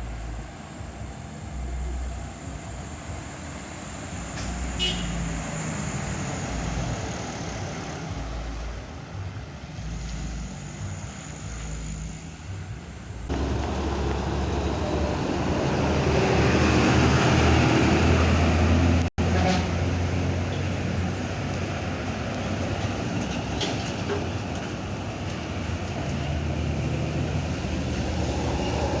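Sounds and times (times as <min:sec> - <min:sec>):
distant heavy vehicle engine: 0:00.0 - 0:29.0
heavy vehicle passing close: 0:00.0 - 0:29.0.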